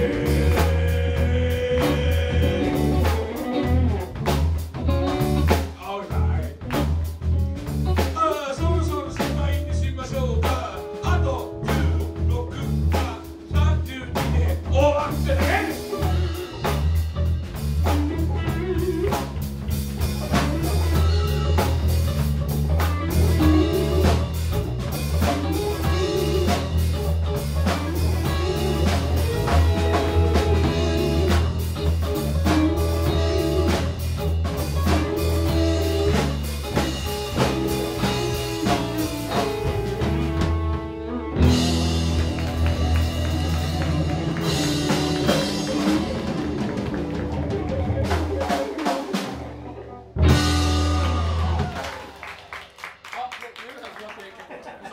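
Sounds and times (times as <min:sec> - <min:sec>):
electric bass: 0:00.0 - 0:52.2
electric guitars: 0:00.0 - 0:52.6
drum kit: 0:00.0 - 0:53.2.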